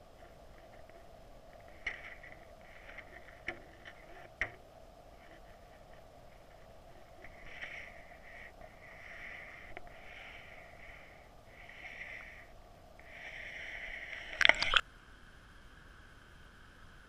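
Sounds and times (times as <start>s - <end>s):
faint steady hum: 0.0s - 17.0s
muffled underwater stream hiss: 0.0s - 17.0s.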